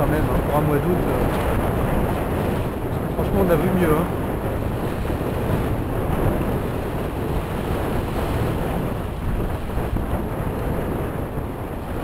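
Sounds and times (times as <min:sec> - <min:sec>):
water rushing past hulls: 0:00.0 - 0:12.0
wind buffeting microphone: 0:00.0 - 0:12.0.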